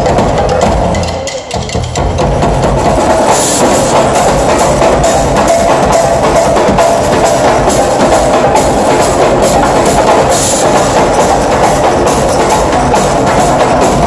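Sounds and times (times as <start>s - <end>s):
drum ensemble playing fast groove: 0.0s - 14.0s.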